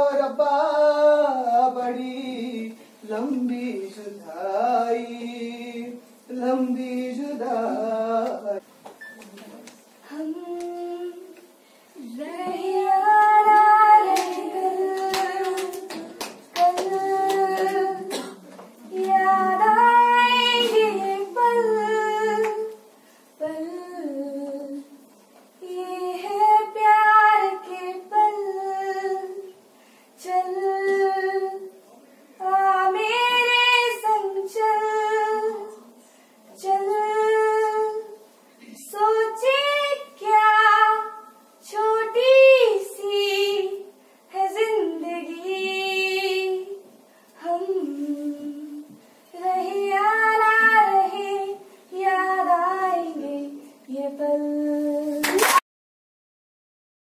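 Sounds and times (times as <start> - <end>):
woman singing unaccompanied: 0.0 - 8.6, 10.0 - 25.0, 25.6 - 29.6, 30.2 - 31.8, 32.4 - 35.9, 36.5 - 46.8, 47.4 - 55.4.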